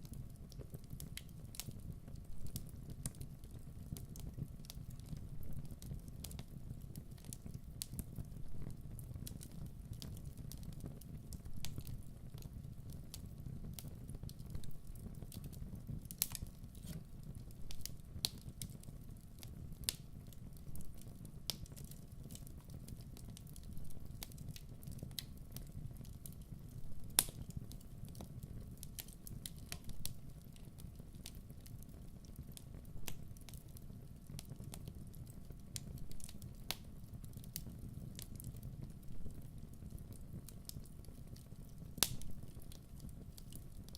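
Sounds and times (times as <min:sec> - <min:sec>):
fire crackling and popping: 0:00.0 - 0:43.9.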